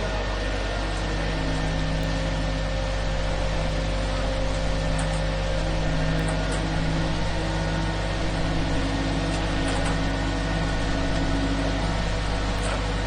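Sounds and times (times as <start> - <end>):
concrete mixer engine hum: 0.0 - 13.0
concrete pouring rush: 0.0 - 13.0.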